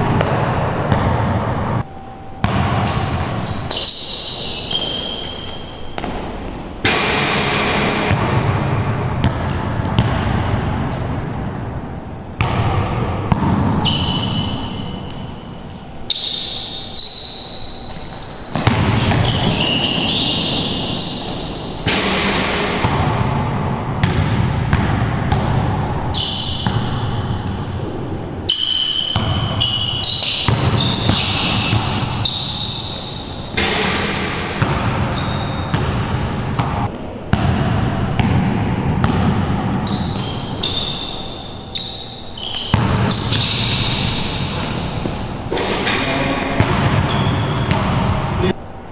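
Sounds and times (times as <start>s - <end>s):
sneakers squeaking: 0.0s - 6.9s, 8.1s - 23.3s, 24.0s - 38.3s, 38.9s - 48.6s
basketball bouncing on court: 0.0s - 15.2s, 17.4s - 27.9s, 28.5s - 48.5s.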